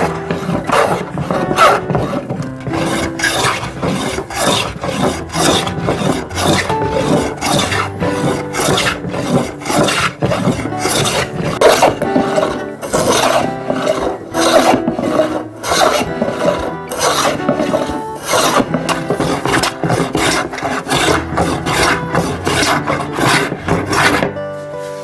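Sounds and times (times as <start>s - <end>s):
hand tool rasping on surface: 0.0s - 25.0s.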